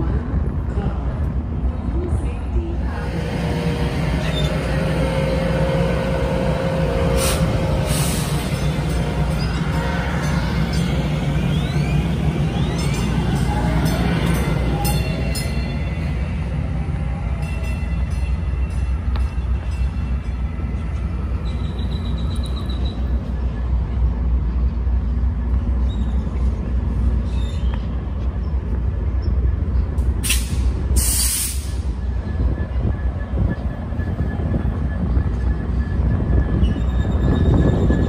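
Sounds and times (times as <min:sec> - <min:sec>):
train engine and wheels rumbling: 0:00.0 - 0:38.0.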